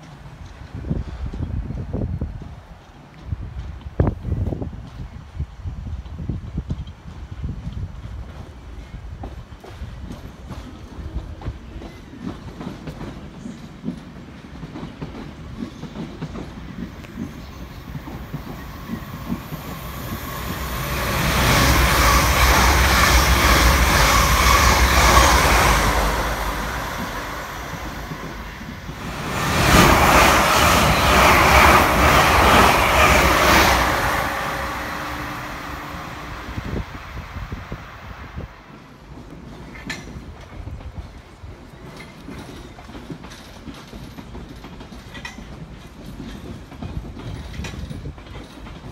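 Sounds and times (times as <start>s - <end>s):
train wheels clattering over rails: 6.0s - 38.0s, 38.6s - 48.9s.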